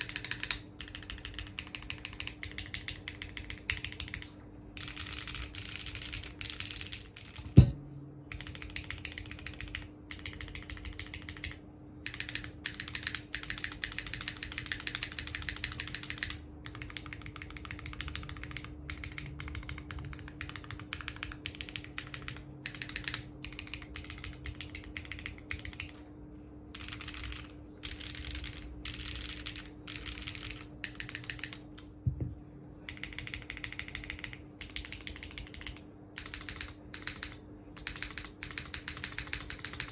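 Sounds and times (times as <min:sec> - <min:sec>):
keyboard typing: 0:00.0 - 0:26.1, 0:26.7 - 0:31.9, 0:32.8 - 0:39.9.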